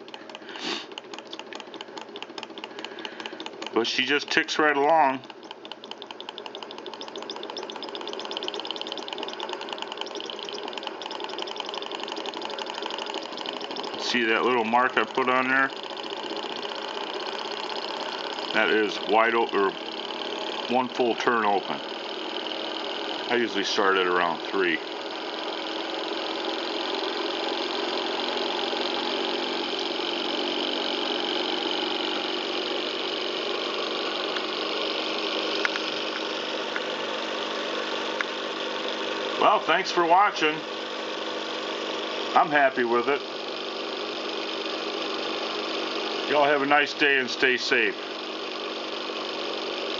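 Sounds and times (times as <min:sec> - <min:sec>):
model engine ticking: 0:00.0 - 0:36.1, 0:37.2 - 0:49.9.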